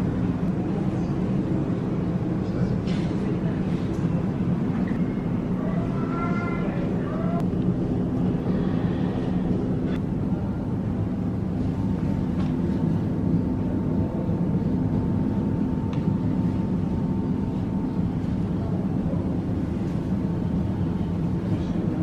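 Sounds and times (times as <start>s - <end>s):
low indoor rumble: 0.0s - 22.0s.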